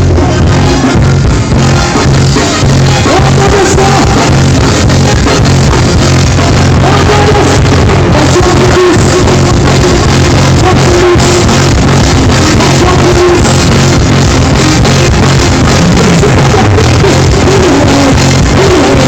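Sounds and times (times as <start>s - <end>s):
live reggae band with heavy bass: 0.0s - 19.0s
vocalist singing: 0.0s - 19.0s.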